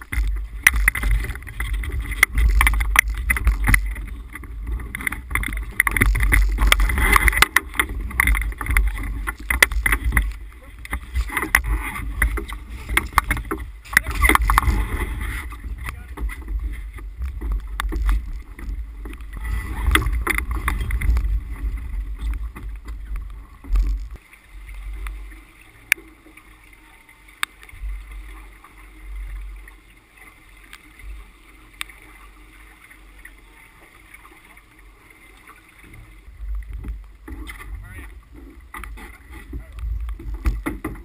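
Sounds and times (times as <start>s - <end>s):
water rushing along boat hull: 0.0s - 41.0s.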